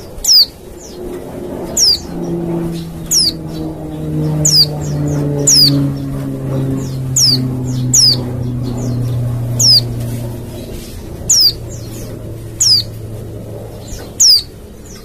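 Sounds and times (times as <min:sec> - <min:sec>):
bird chirping: 0:00.1 - 0:15.0.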